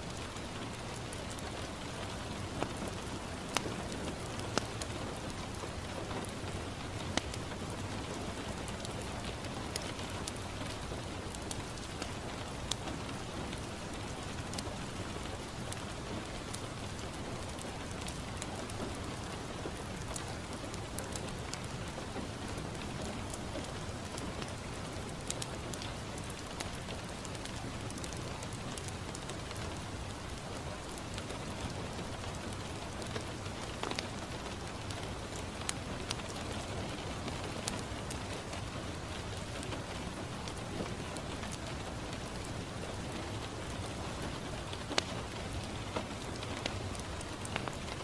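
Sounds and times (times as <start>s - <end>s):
rain on a window: 0.0s - 48.0s
wood fire crackling: 0.0s - 48.0s.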